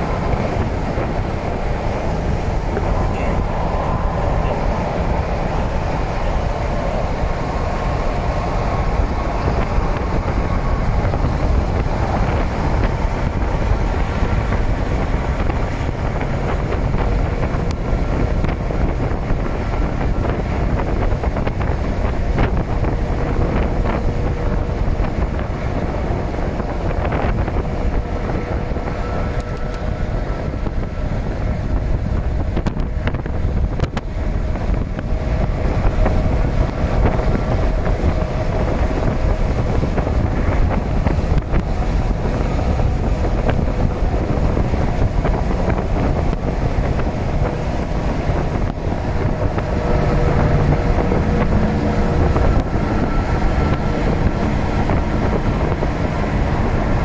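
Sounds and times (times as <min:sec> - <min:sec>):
freight train wheels rumbling: 0:00.0 - 0:57.0
wind buffeting microphone: 0:00.0 - 0:57.0.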